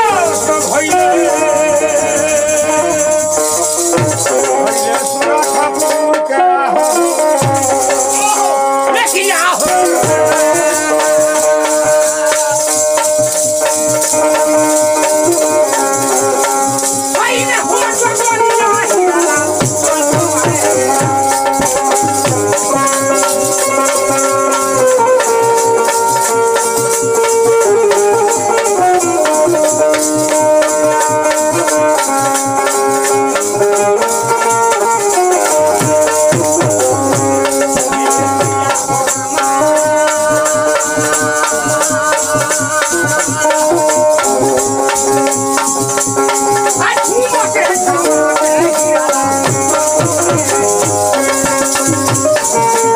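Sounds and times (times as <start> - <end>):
clapper jingling: 0.0 - 52.9
dholak drum beat: 0.0 - 52.9
folk music melody: 0.0 - 52.9.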